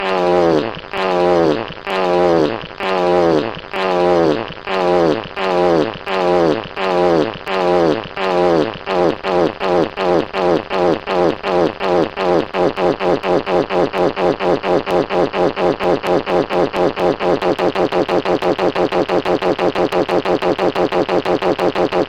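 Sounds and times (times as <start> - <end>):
fart sliding down in pitch: 0.0 - 22.0.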